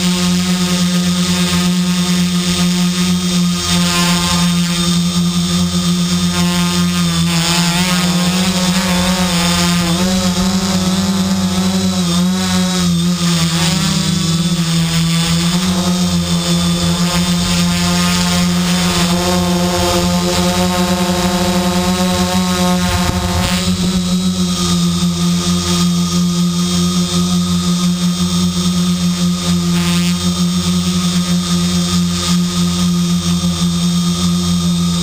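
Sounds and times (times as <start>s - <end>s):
quadcopter motors buzzing: 0.0s - 35.0s.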